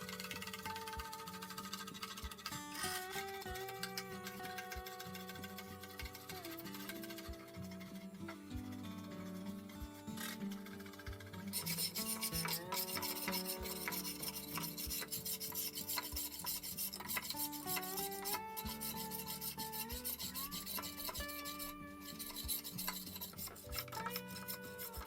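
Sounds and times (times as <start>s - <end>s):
background music: 0.0s - 25.0s
rhythmic rasping and scraping: 0.0s - 25.0s.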